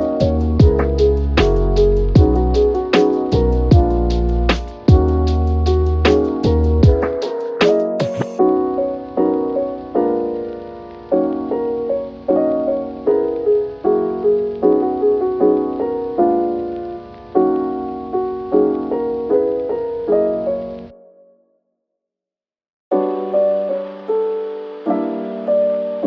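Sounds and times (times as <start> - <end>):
piano chords: 0.0 - 21.4, 22.9 - 26.0.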